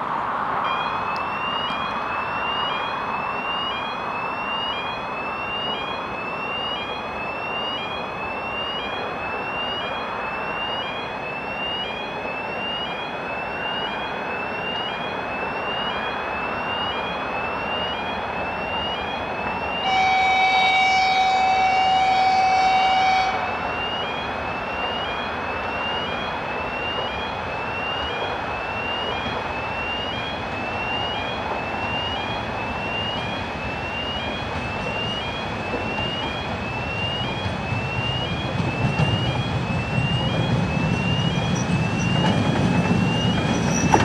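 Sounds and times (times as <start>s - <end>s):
diesel locomotive approaching: 0.0s - 44.0s
crossing signal rising electronic tone: 0.6s - 44.0s.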